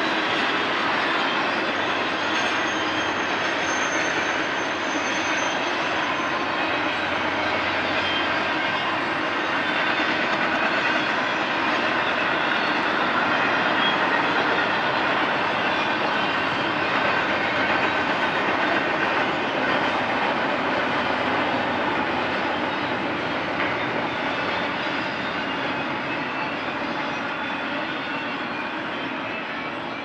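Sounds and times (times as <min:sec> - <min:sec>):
freight train wheels on rail: 0:00.0 - 0:30.0.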